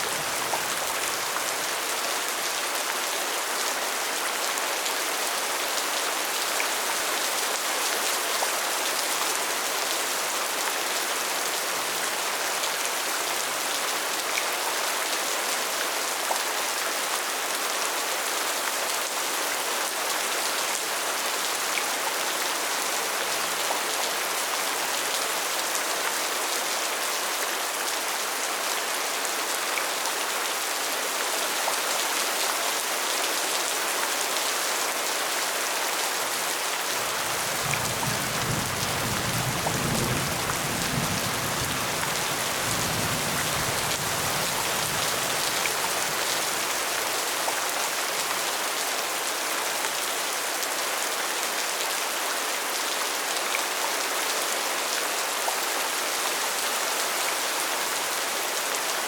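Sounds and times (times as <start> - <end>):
rain patter: 0.0 - 51.7.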